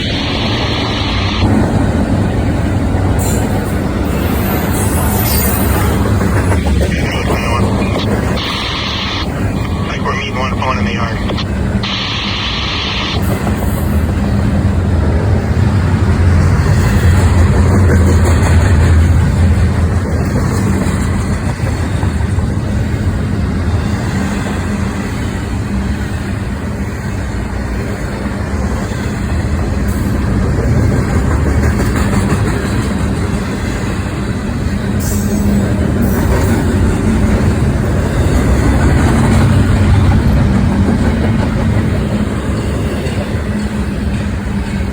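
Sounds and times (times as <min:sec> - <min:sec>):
train rumble: 0:00.0 - 0:44.9.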